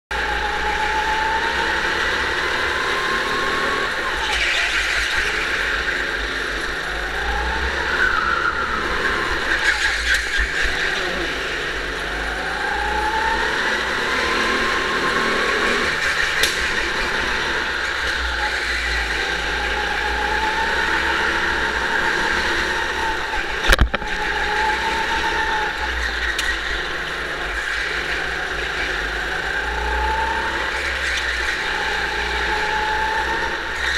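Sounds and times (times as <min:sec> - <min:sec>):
go-kart engine whine: 0:00.1 - 0:33.9.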